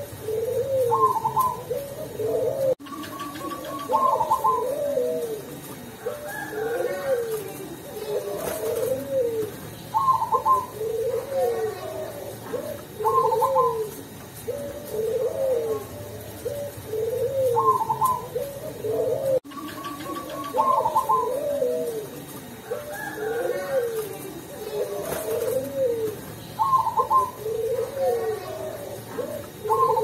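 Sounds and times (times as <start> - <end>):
dove cooing: 0.0 - 30.0
dove trilled note: 0.0 - 30.0.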